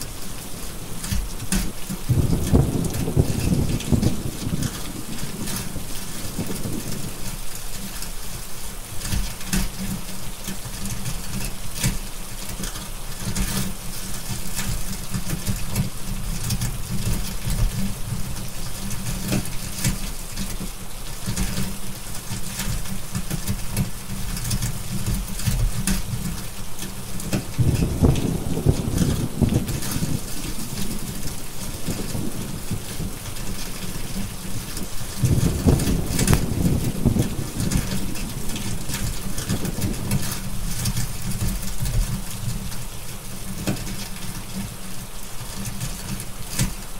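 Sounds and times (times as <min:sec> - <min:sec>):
fireplace popping and crackling: 0:00.0 - 0:44.7
rain hiss: 0:00.0 - 0:46.9.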